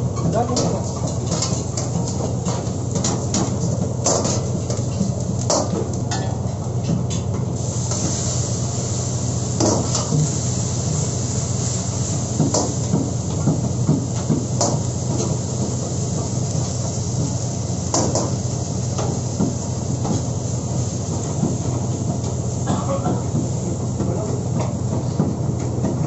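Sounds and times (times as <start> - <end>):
liquid sizzling in hot wok: 0.0 - 25.8.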